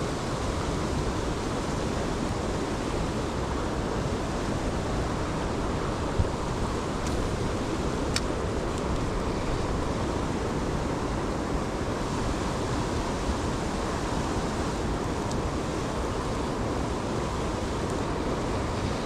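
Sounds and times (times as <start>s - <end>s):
fast-flowing stream rushing: 0.0s - 19.0s.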